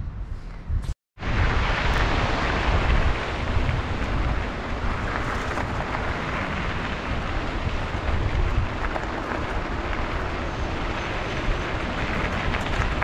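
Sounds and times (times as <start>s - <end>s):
wind buffeting microphone: 0.0s - 13.0s
tyres rolling on gravel: 1.2s - 13.0s.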